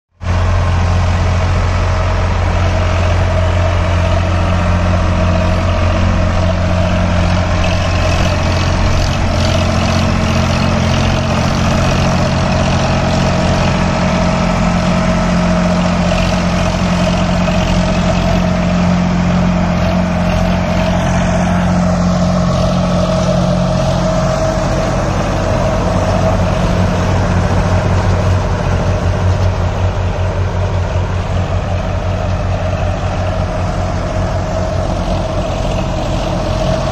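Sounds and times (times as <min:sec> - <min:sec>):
tractor diesel engine under load: 0:00.1 - 0:36.9.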